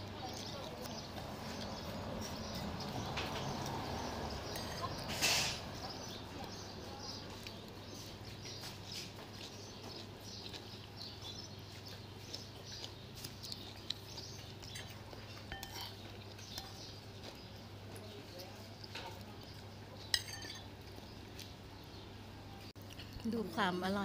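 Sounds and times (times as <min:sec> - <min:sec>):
person chewing and slurping: 0:00.0 - 0:06.6, 0:07.3 - 0:21.6.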